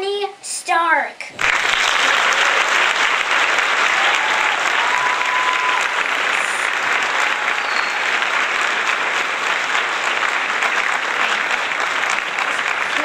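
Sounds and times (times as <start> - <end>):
audience applause: 1.4 - 13.0.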